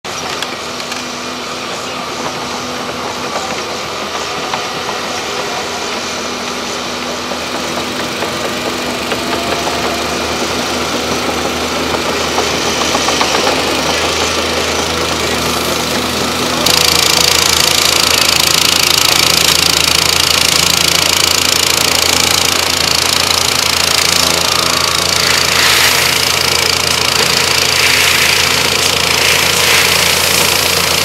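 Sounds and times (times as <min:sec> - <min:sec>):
excavator diesel engines running: 0:00.0 - 0:31.0.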